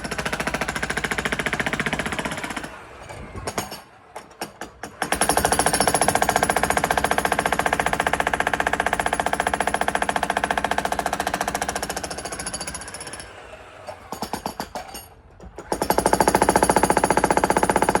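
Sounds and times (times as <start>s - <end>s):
jackhammer breaking concrete: 0.0s - 18.0s.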